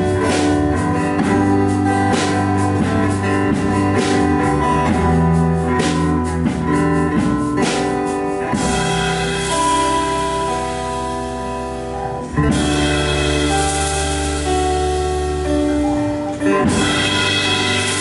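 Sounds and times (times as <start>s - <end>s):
pop-rock band playing: 0.0s - 18.0s.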